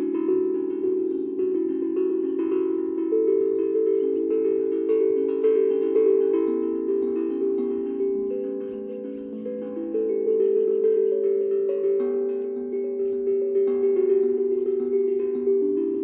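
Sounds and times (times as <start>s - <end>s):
harp plucked tune: 0.0s - 16.0s.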